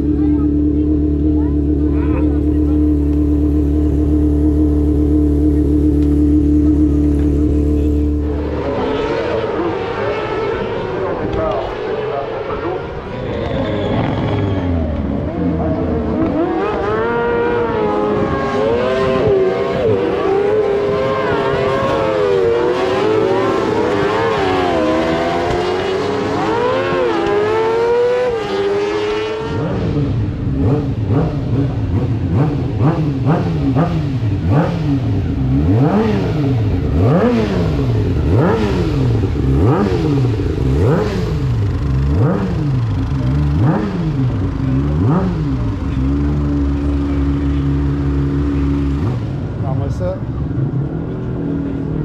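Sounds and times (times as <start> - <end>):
lower engine notes rising and falling: 0.0 - 52.0
racing motorcycle engines revving: 0.0 - 52.0.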